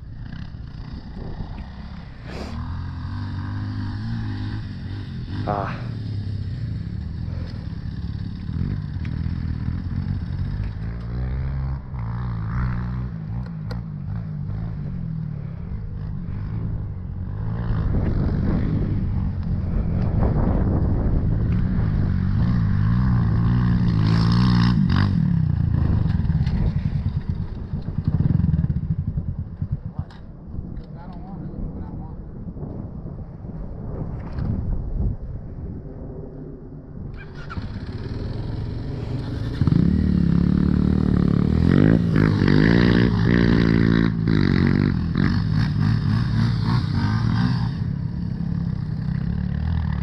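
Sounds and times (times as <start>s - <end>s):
dirt bike engine running: 0.0s - 30.1s, 37.2s - 50.0s.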